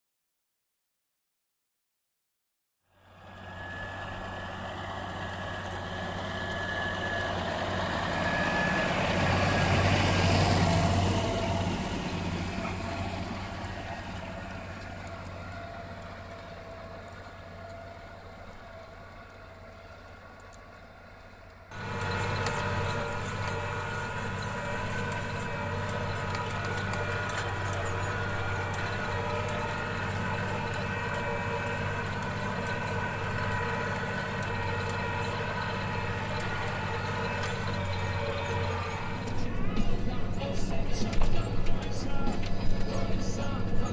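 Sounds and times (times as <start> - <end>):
tractor diesel engine under load: 2.9 - 43.9.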